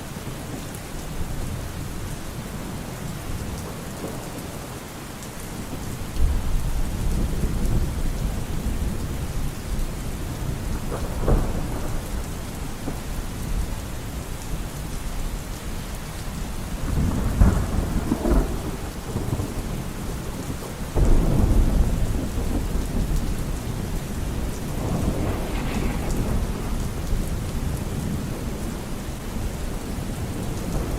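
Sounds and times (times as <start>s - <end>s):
steady rain: 0.0s - 30.9s
rolling thunder: 5.4s - 30.9s.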